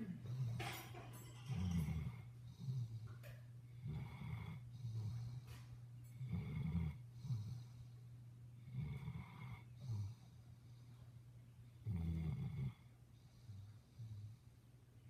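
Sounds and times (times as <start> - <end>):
dog snoring: 0.0 - 10.9, 11.6 - 14.6.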